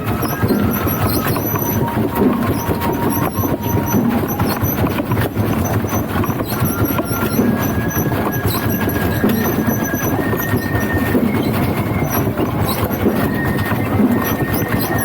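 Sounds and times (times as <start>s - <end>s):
thin drawn-out squeals: 0.0s - 15.0s
wooden wheels rumbling and clattering: 0.0s - 15.0s.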